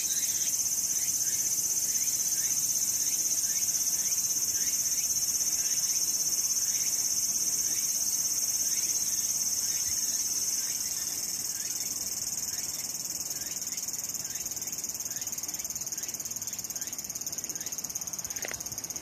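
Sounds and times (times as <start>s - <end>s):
cicadas calling: 0.0s - 19.0s.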